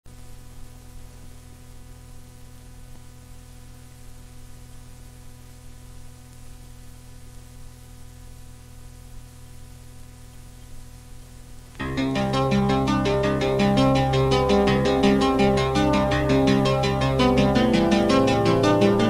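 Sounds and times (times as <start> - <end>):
buzzy mains hum: 0.1 - 19.0
tape hiss: 0.1 - 19.0.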